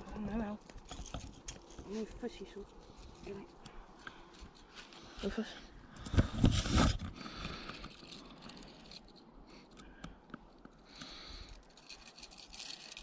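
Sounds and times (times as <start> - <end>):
faint scraping and rustling: 0.0 - 13.0.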